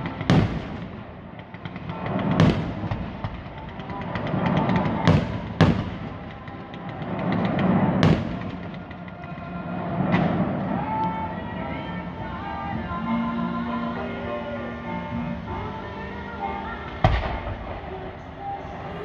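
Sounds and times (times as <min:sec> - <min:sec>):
fireworks bangs: 0:00.0 - 0:19.0
fireworks crackling: 0:00.0 - 0:19.0
rumbling echo: 0:00.0 - 0:19.0.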